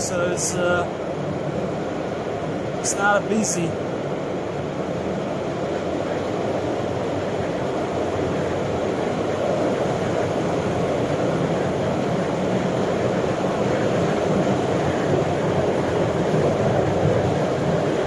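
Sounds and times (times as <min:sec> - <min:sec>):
metro train running: 0:01.8 - 0:18.0.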